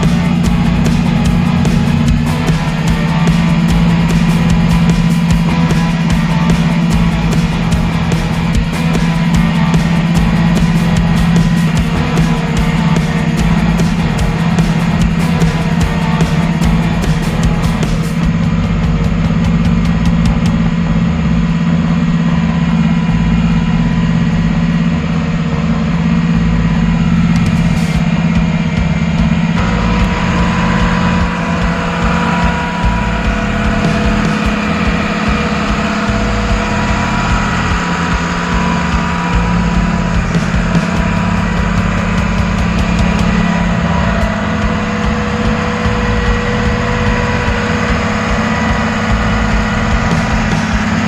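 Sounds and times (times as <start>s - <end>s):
car engine running steadily: 0.0s - 51.0s.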